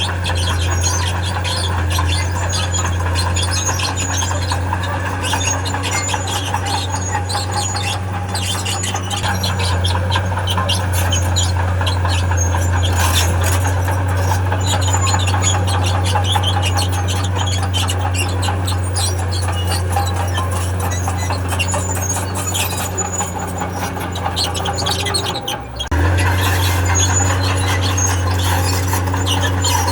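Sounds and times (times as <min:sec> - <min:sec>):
bulldozer engine drone: 0:00.0 - 0:29.9
steel tracks squealing and scraping: 0:00.0 - 0:29.9.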